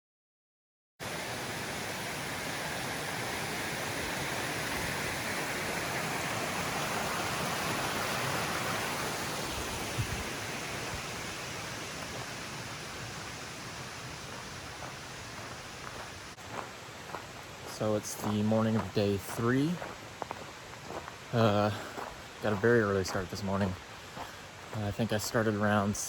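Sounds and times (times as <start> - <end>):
running water rushing: 1.0 - 26.0.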